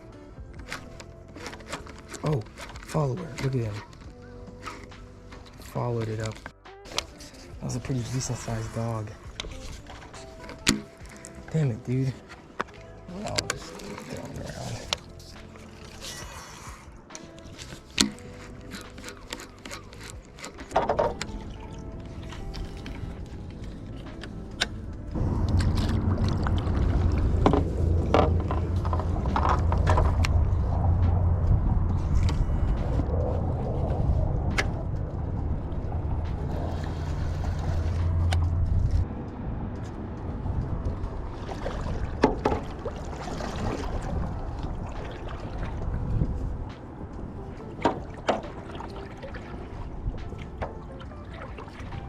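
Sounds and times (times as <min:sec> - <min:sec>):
small boat motor humming: 0:08.6 - 0:52.0.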